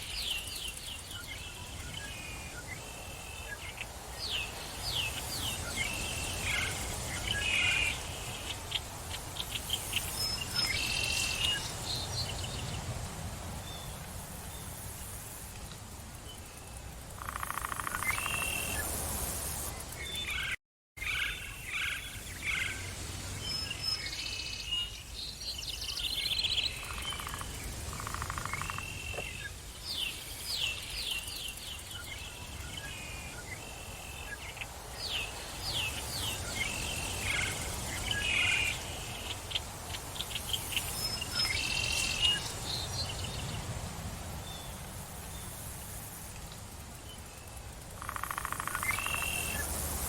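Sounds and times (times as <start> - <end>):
forest birds chirping: 0.0 - 50.0.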